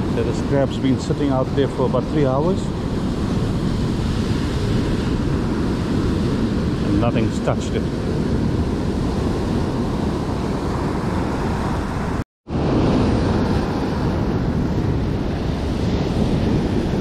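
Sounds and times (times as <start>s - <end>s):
ocean surf washing over rocks: 0.0s - 17.0s
wind buffeting microphone: 0.0s - 17.0s.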